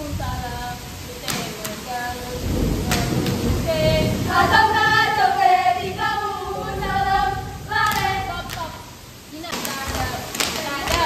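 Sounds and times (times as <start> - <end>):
women singing chant in unison: 0.0 - 11.0.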